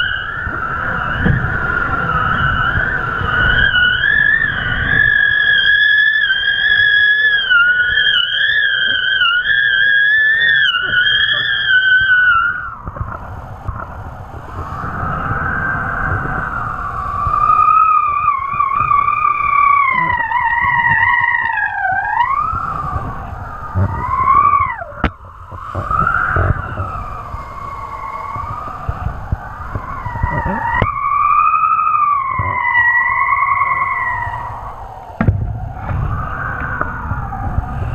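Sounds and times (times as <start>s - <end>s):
wind buffeting microphone: 0.0s - 37.9s
wind whistling over gear: 0.0s - 37.9s.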